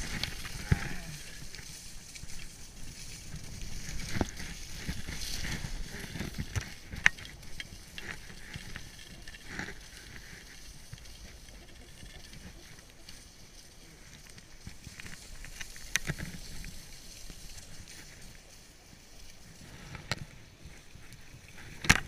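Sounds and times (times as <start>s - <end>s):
skis scraping over snow: 0.0s - 22.0s.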